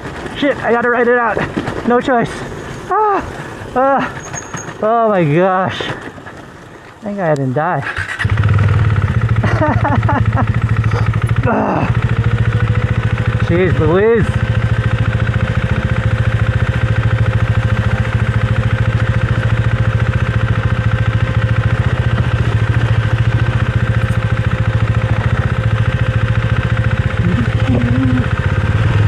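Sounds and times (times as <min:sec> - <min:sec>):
motorcycle engine running steadily: 0:00.0 - 0:29.0.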